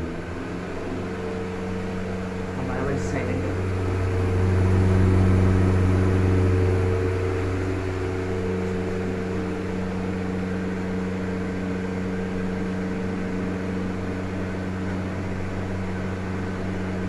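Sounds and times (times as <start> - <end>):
exhaust fan running: 0.0 - 17.0.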